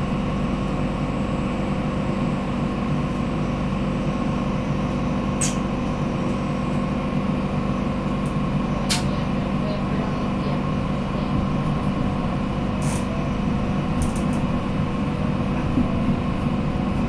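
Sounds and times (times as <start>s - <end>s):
electric train hum: 0.0s - 17.0s.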